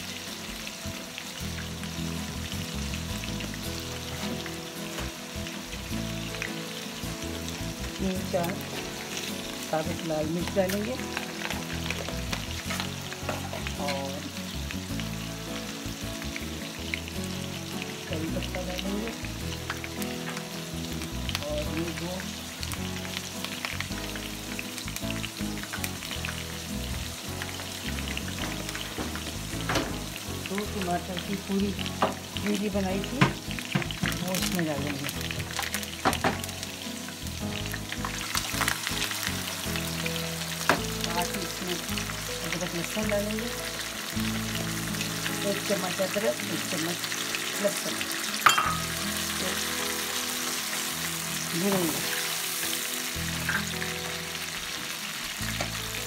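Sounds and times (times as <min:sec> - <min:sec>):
background music: 0:00.0 - 0:56.0
seeds sizzling in hot oil: 0:00.0 - 0:56.0.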